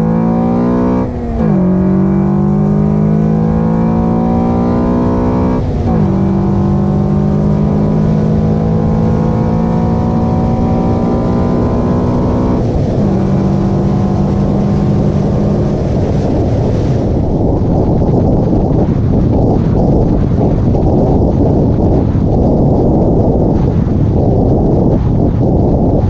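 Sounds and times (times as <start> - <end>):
car engine accelerating: 0.0 - 26.0
road and wind noise: 0.0 - 26.0.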